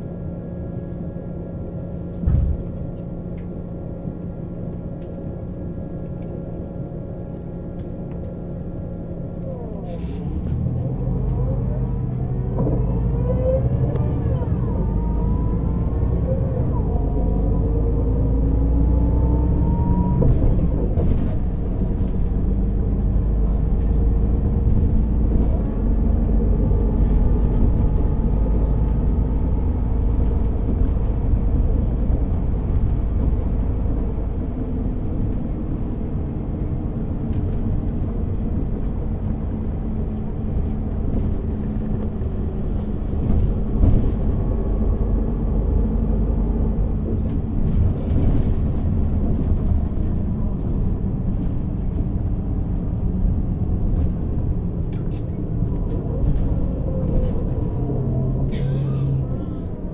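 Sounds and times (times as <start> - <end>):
diesel bus engine rumble: 0.0 - 59.9.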